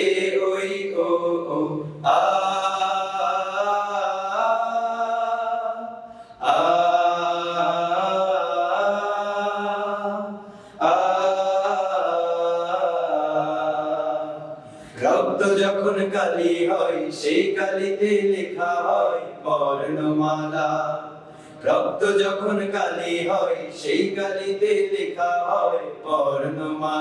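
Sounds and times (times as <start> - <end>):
male a cappella group singing: 0.0 - 27.0.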